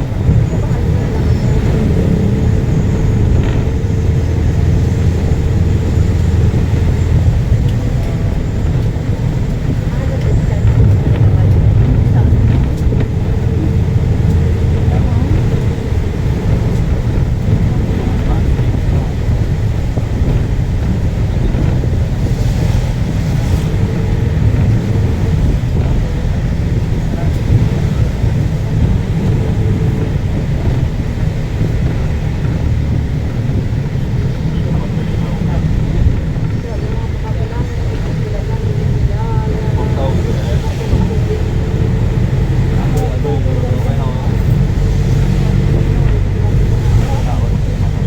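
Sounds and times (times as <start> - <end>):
road vehicle rumble: 0.0 - 48.0
wind buffeting microphone: 0.0 - 48.0.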